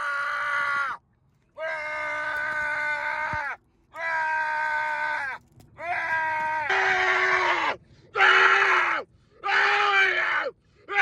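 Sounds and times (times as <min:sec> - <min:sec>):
person screaming: 0:00.0 - 0:01.0, 0:01.6 - 0:10.5.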